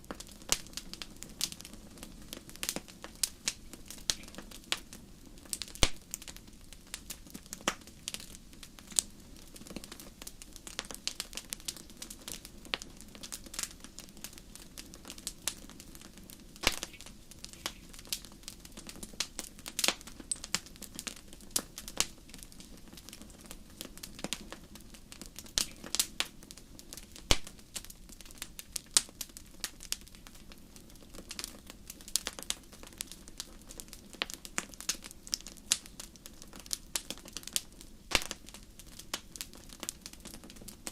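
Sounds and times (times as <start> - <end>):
fire hissing: 0.0 - 33.5
wood fire crackling and popping: 0.0 - 40.9.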